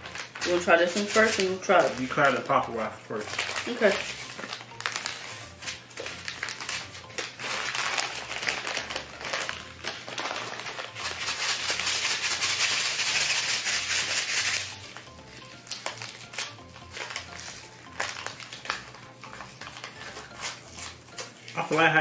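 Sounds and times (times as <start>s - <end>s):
candy packets crinkling: 0.0s - 22.0s
crackling candy clicks: 0.0s - 22.0s.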